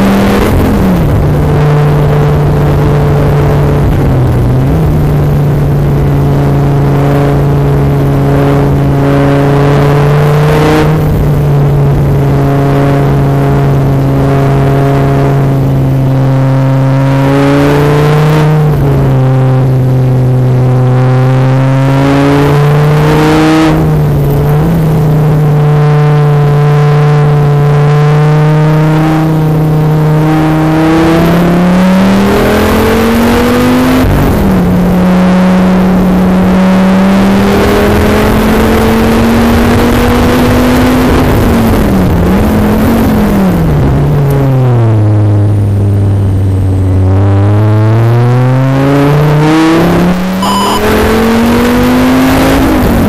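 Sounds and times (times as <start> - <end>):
sports car engine: 0.0 - 53.0.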